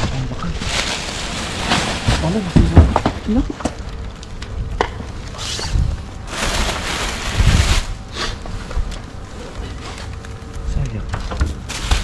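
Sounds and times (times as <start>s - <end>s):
rustling: 0.0s - 10.6s.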